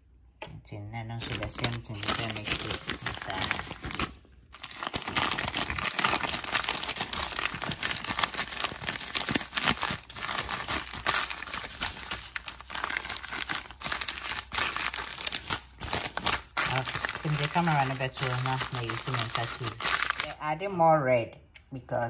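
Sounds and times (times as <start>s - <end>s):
plastic bag crinkling: 1.2s - 20.4s.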